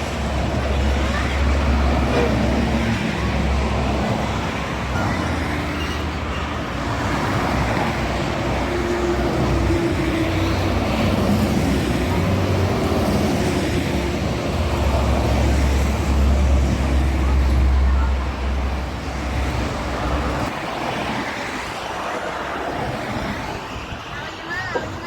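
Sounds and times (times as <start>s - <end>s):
tyre and road noise: 0.0s - 25.0s.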